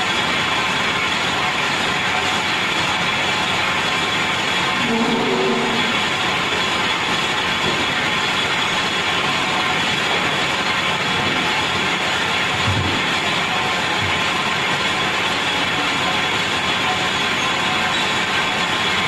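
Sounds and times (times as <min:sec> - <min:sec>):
high machine whine: 0:00.0 - 0:19.0
lathe running: 0:00.0 - 0:19.0.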